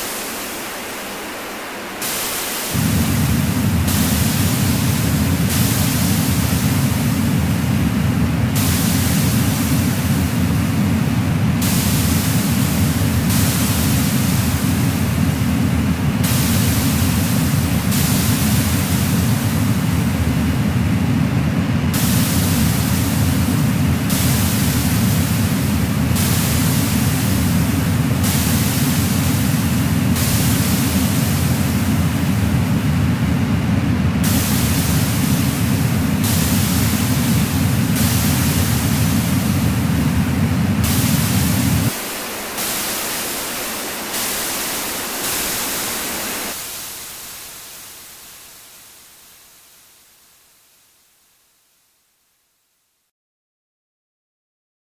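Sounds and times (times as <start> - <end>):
high hiss: 0.0 - 52.0
deep layer of static noise: 0.0 - 53.1.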